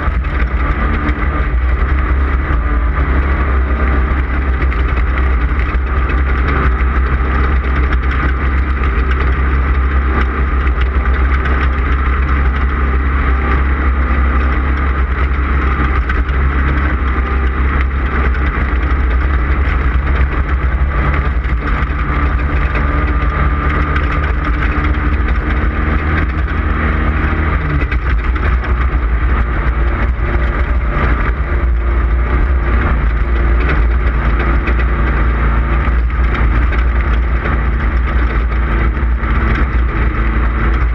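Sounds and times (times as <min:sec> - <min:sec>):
engine running hard: 0:00.0 - 0:40.9
road and wind noise: 0:00.0 - 0:40.9.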